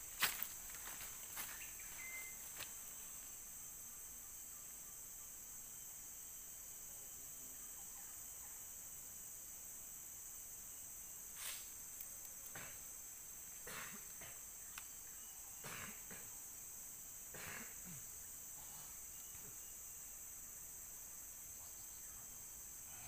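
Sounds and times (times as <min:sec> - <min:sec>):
insect chorus droning: 0:00.0 - 0:23.0.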